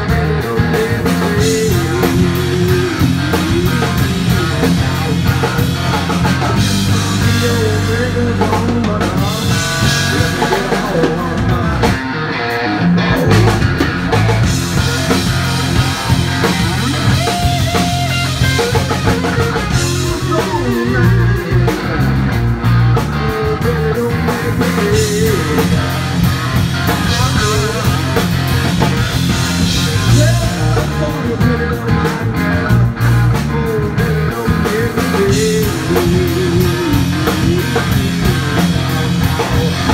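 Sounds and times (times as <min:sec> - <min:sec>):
electric guitar: 0:00.0 - 0:39.9
rock drum beat: 0:00.0 - 0:39.9.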